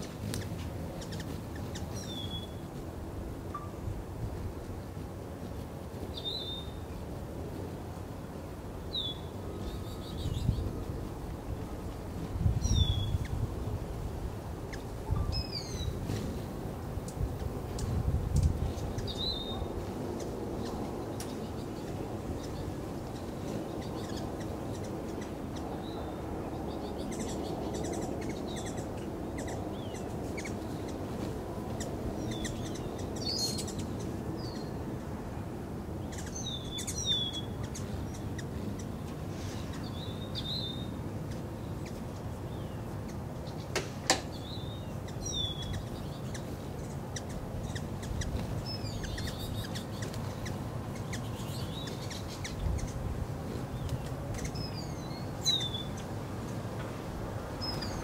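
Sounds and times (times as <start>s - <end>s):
small birds chirping: 0.0s - 2.7s, 6.0s - 7.2s, 8.9s - 13.5s, 14.6s - 35.0s, 36.0s - 58.0s.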